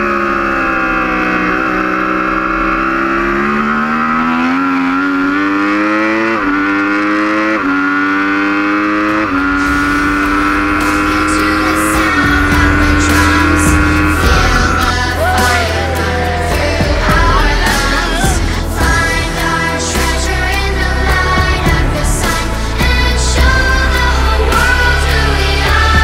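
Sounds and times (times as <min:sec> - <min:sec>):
gear upshifts: 0:00.0 - 0:26.0
motorcycle engine accelerating: 0:00.0 - 0:26.0.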